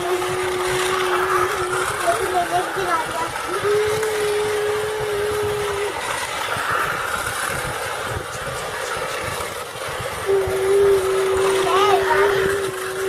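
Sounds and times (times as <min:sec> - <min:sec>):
toy train rattling hum: 0:00.0 - 0:13.0.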